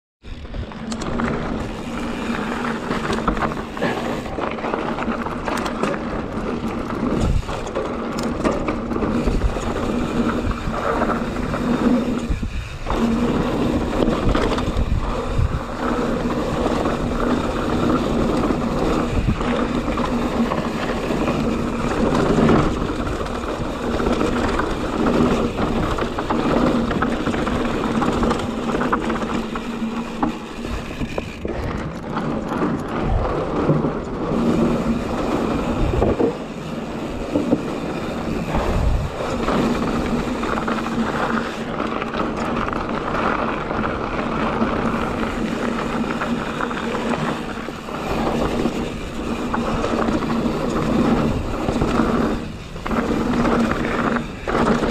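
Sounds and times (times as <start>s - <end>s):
bike rattling over bumps: 0.2s - 54.9s
bike tyre rumble on dirt: 0.2s - 54.9s.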